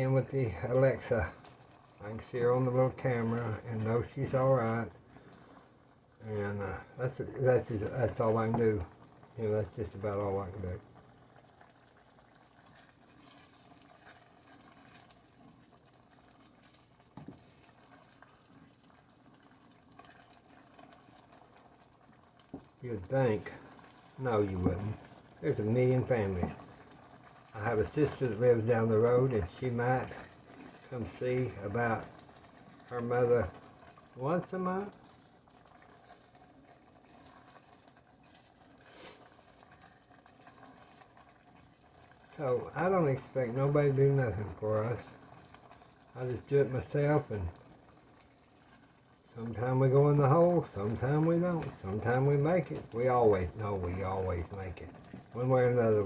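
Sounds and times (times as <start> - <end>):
sauce bubbling in a skillet: 0.0 - 56.0.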